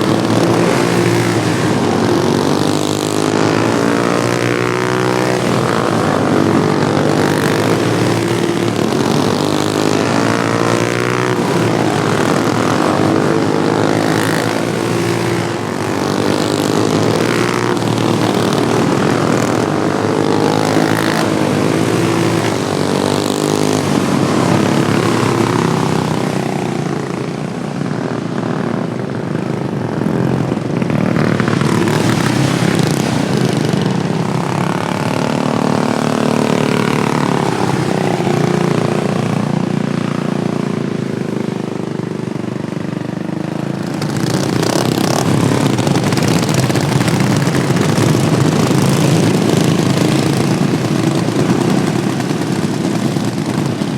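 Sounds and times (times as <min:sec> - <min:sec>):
racing lawnmower engines: 0:00.0 - 0:53.9.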